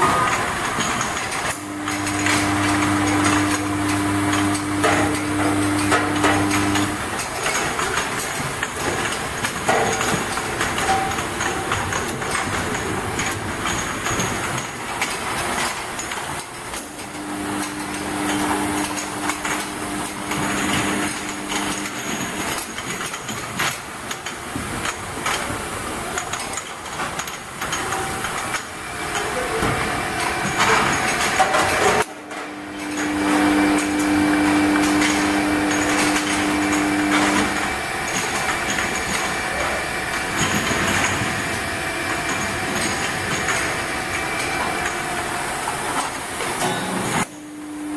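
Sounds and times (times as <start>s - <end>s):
steady hum: 0.0s - 13.7s, 14.8s - 24.0s, 27.6s - 47.9s
washing machine clatter and hiss: 0.0s - 47.9s.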